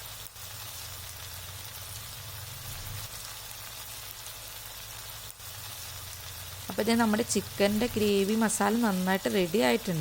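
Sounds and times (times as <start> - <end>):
gravy sizzling in a pan: 0.0 - 10.0.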